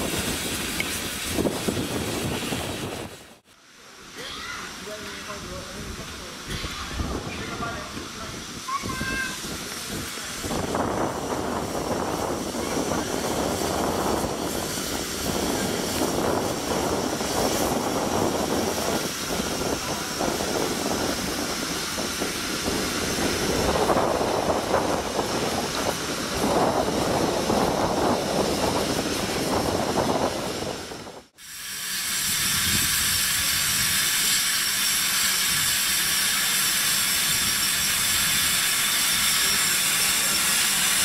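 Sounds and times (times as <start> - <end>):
steam locomotive hissing steam: 0.0 - 41.0.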